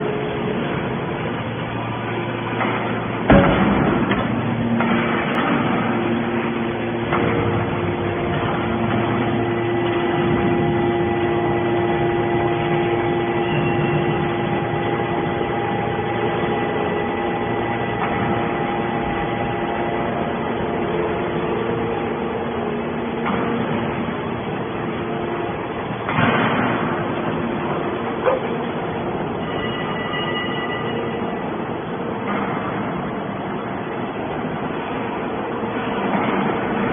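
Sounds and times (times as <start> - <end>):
hydraulic baler humming: 0.0 - 36.9.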